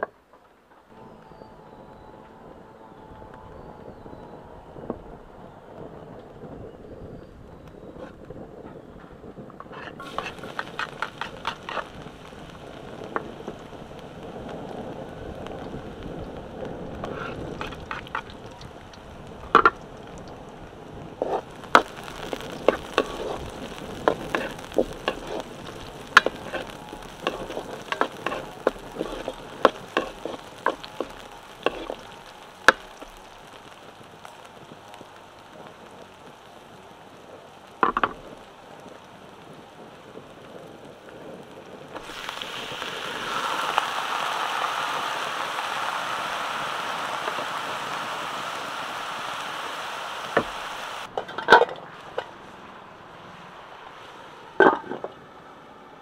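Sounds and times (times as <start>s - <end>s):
garlic sizzling in hot oil: 1.0s - 52.3s.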